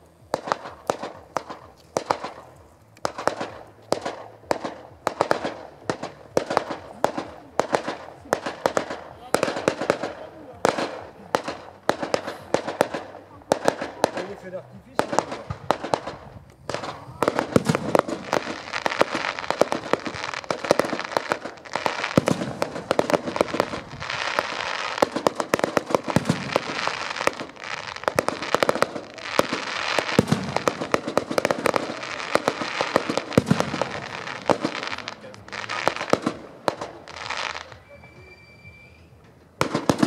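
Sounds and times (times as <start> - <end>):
fireworks crackling and popping: 0.0 - 40.0.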